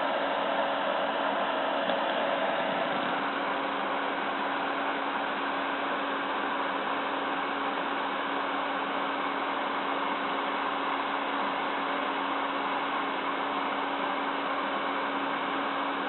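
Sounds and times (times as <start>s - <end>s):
computer fan running: 0.0s - 16.0s.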